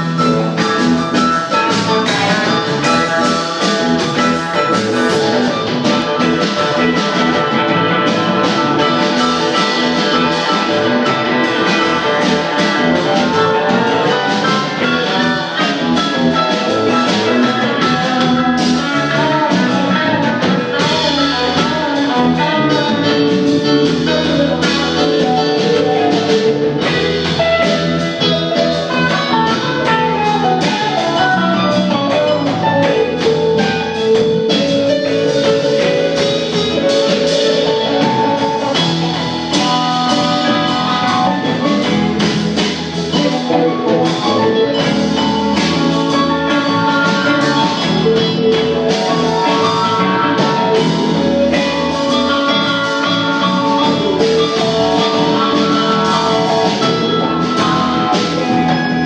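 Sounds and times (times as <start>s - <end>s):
bass guitar: 0.0s - 59.0s
drum kit: 0.0s - 59.0s
electric guitars: 0.0s - 59.0s
keyboards: 0.0s - 59.0s.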